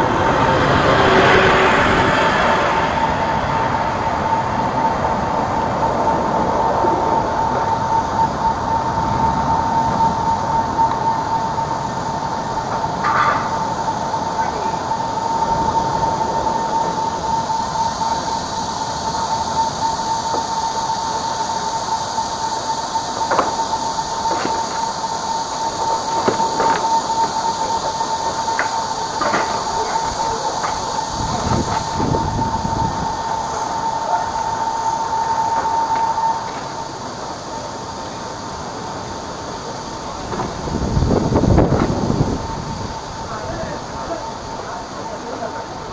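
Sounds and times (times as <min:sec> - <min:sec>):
drain jetter whining: 0:00.0 - 0:45.9.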